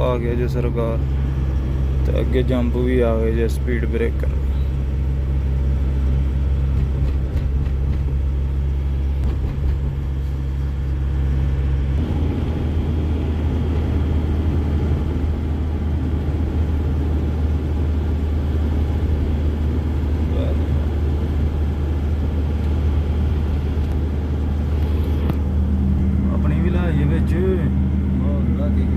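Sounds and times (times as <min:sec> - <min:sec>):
road noise: 0:00.0 - 0:28.9
truck engine running: 0:00.0 - 0:28.9.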